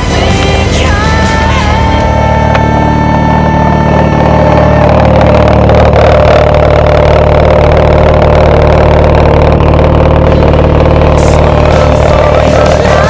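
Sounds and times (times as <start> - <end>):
rotary engine idling: 0.0 - 13.0.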